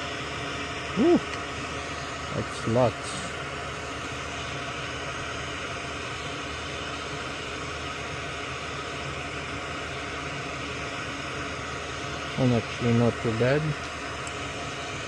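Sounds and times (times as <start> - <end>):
fan hissing: 0.0 - 15.0.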